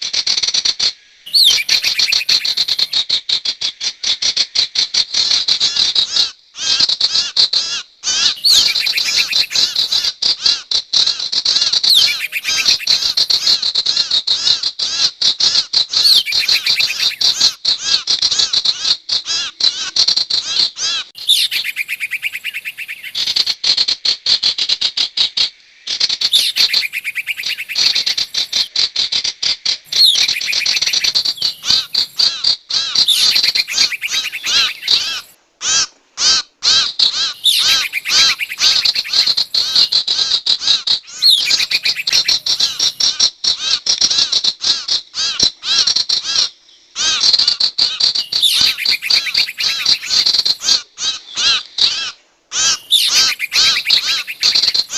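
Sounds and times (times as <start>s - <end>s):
high chattering bird calls: 1.2s - 3.0s, 5.5s - 23.6s, 25.9s - 54.9s.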